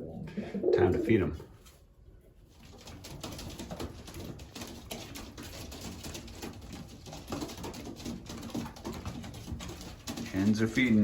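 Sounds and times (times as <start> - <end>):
pigeons pecking grain: 0.0 - 11.0.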